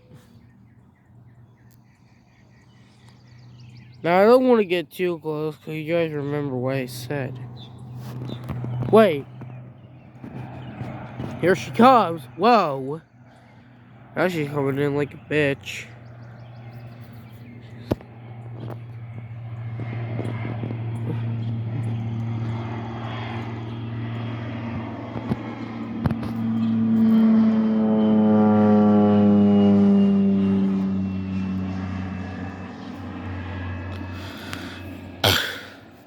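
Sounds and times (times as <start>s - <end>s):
propeller airplane passing overhead: 0.0s - 36.0s.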